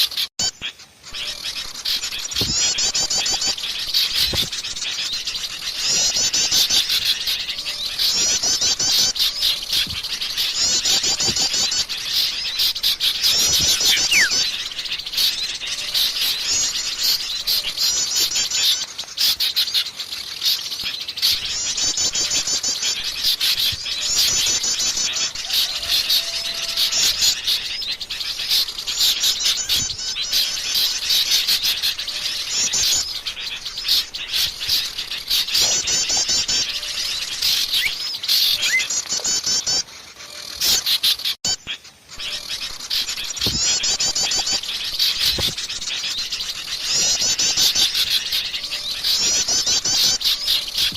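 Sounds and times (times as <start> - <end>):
bird chips and twitters: 0.0 - 50.9
songbird rapid high trills: 0.1 - 50.9.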